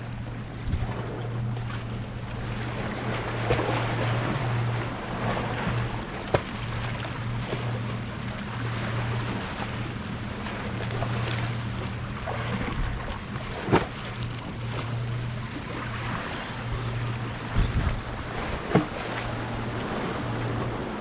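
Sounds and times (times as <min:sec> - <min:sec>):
steady low hum: 0:00.0 - 0:21.0
surf: 0:00.0 - 0:21.0
wind: 0:00.0 - 0:21.0.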